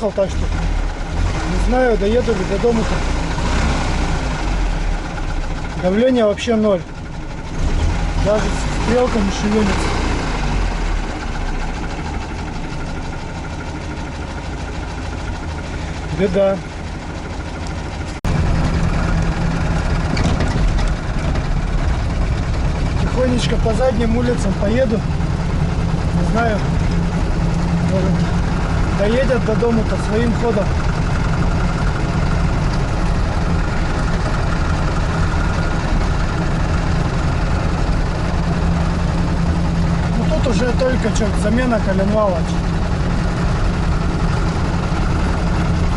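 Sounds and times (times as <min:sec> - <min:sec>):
engine running with internal knock: 0:00.0 - 0:45.9.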